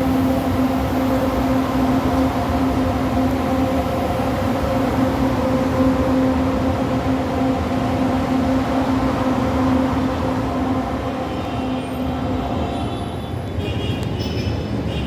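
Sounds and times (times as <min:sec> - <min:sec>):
electric train rumble: 0:00.0 - 0:13.6.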